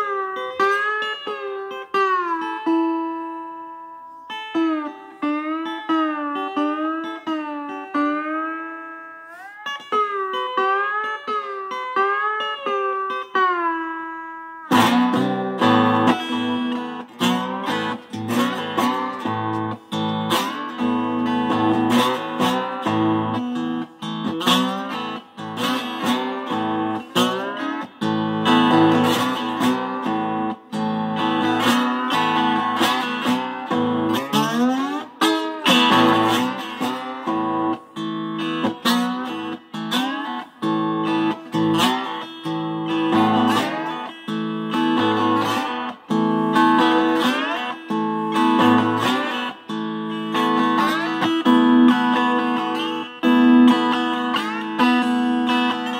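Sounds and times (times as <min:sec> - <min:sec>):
lap steel guitar playing: 0:00.0 - 0:55.9.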